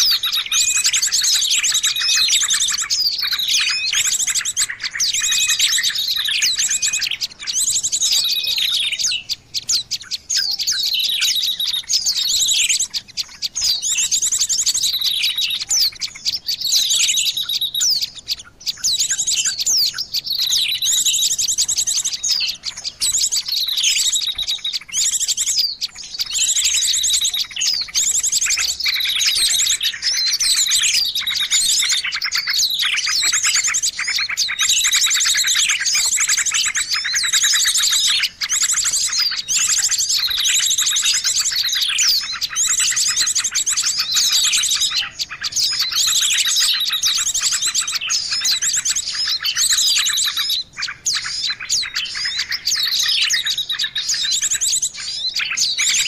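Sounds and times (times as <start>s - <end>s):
high-pitched bird chirps and trills: 0.0s - 56.0s.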